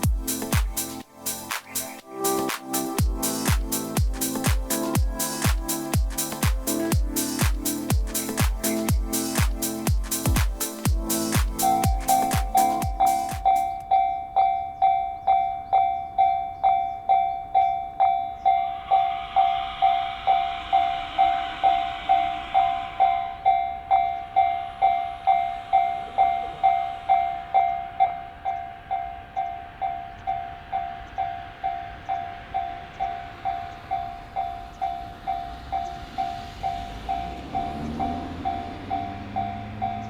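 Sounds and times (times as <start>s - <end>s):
train wheels rushing on rails: 0.0s - 13.8s, 18.4s - 40.0s
level-crossing bell dinging: 2.2s - 40.0s.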